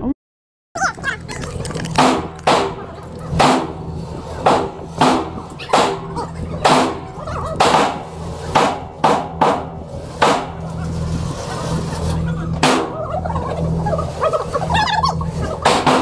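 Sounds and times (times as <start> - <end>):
steady low hum: 0.8 - 16.0.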